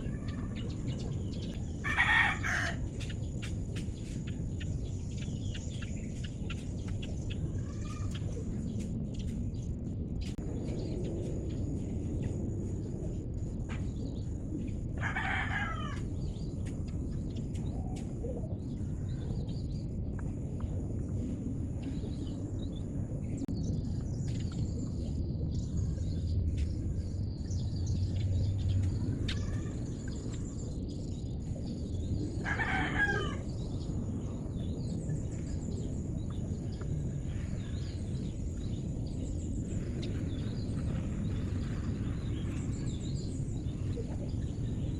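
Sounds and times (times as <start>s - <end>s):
low background rumble: 0.0s - 44.9s.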